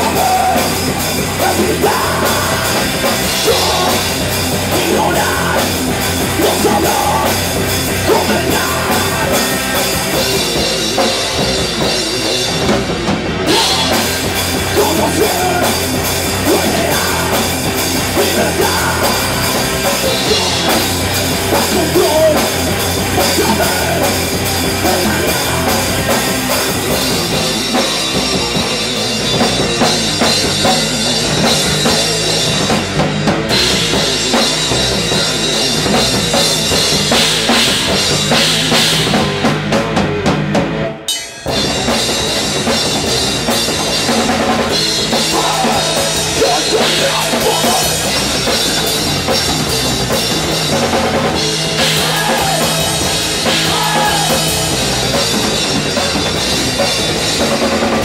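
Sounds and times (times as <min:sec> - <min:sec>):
bass guitar: 0:00.0 - 0:58.0
drum kit with cymbals: 0:00.0 - 0:58.0
electric guitar: 0:00.0 - 0:58.0.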